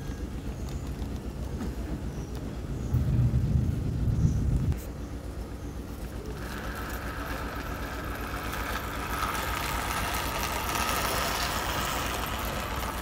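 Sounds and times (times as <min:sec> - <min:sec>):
motor humming with whine: 0:00.0 - 0:13.0.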